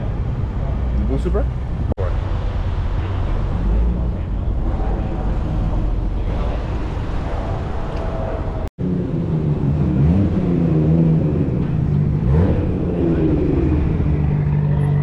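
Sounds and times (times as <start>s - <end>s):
dense engine rumble: 0.0s - 15.0s.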